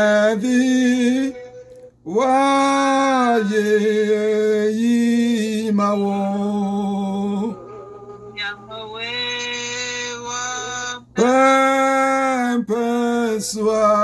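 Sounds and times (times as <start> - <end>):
man singing a prayer chant: 0.0 - 8.2, 9.3 - 14.0.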